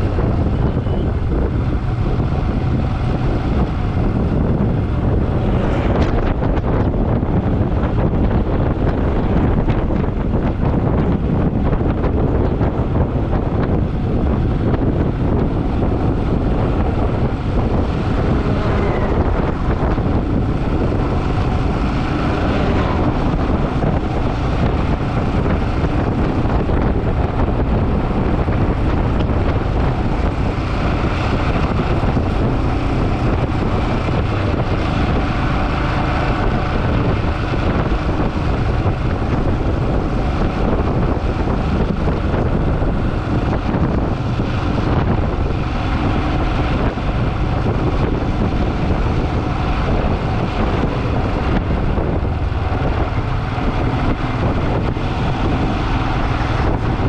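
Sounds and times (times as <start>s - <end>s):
vehicle and road noise: 0.0s - 57.0s
wind rushing over microphone: 0.0s - 57.0s.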